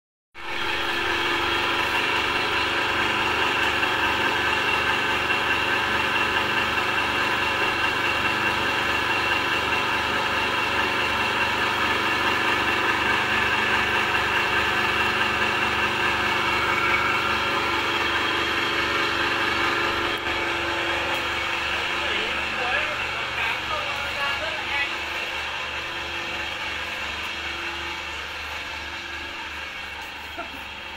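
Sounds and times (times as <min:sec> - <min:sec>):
pellet mill running under load: 0:00.4 - 0:30.9.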